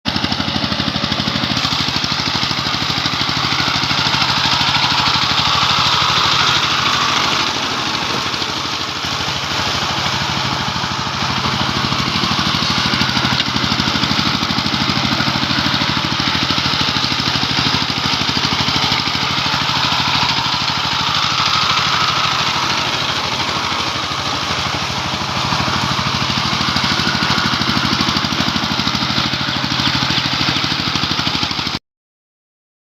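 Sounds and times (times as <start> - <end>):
tractor engine running: 0.0 - 31.8.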